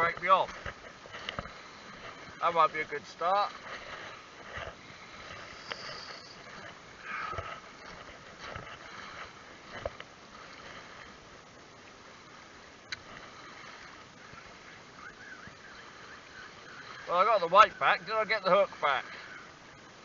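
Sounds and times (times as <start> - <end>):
small waves lapping on shingle: 0.0 - 20.0.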